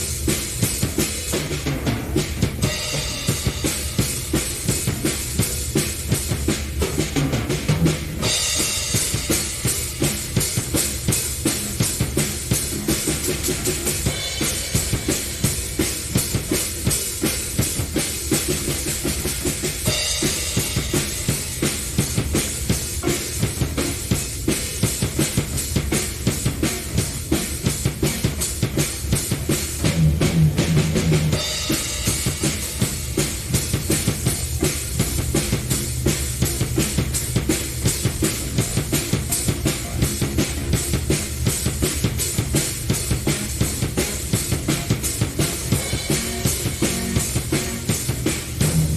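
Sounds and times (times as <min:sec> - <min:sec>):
drum kit groove: 0:00.0 - 0:48.9.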